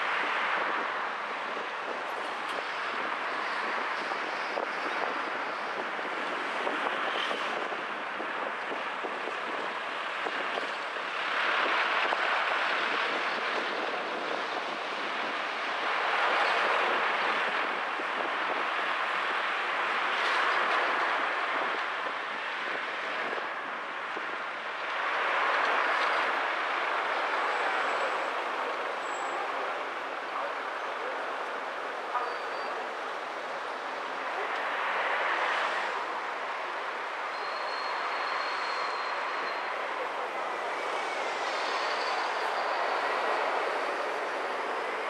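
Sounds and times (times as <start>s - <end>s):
tyres and wind rushing: 0.0s - 45.0s.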